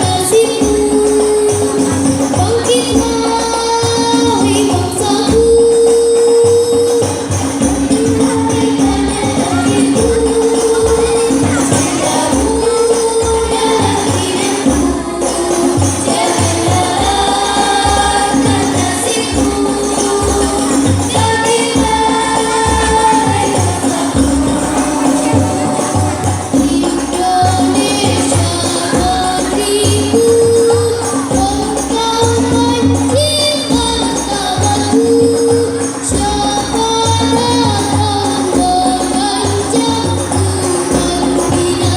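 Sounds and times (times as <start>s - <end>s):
bass drum thumping: 0.0s - 41.9s
frame drums beating: 0.0s - 41.9s
person singing devotional melody: 0.0s - 41.9s.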